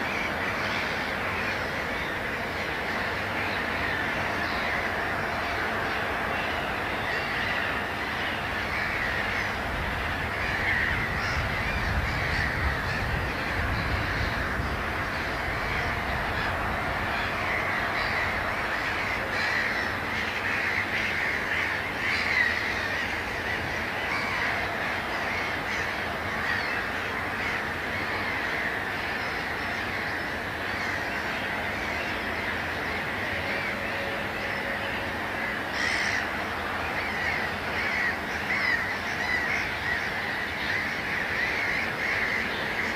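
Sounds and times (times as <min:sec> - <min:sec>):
birds calling: 0:00.0 - 0:42.9
loud bird call: 0:00.0 - 0:42.9.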